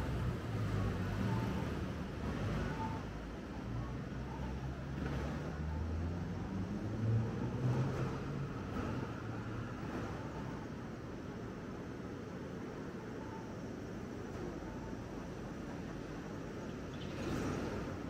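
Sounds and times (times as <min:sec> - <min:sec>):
vehicle engines passing: 0:00.0 - 0:13.0, 0:13.7 - 0:18.0.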